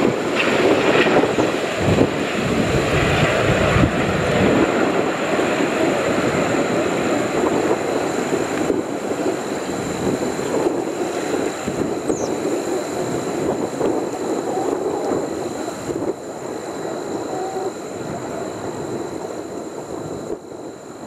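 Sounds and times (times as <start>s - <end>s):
distant jet engines roaring: 0.0s - 21.0s.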